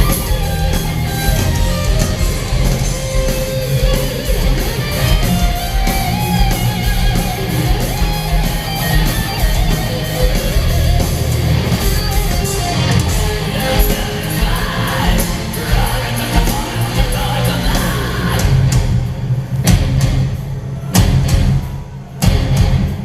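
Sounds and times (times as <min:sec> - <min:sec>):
distorted electric guitars: 0:00.0 - 0:23.0
drums: 0:00.0 - 0:23.0.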